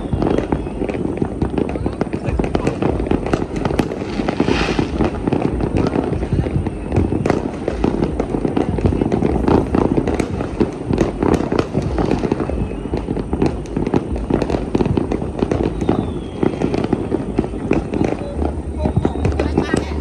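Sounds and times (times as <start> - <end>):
fireworks and firecrackers popping: 0.0 - 20.0.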